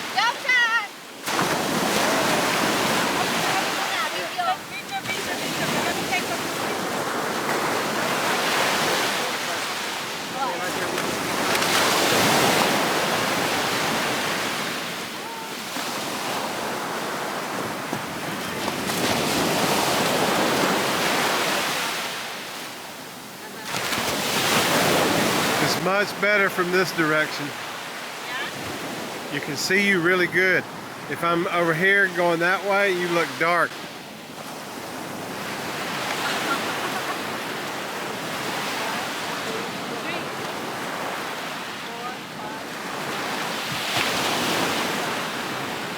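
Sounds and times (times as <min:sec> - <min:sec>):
surf breaking on beach: 0:00.0 - 0:45.9.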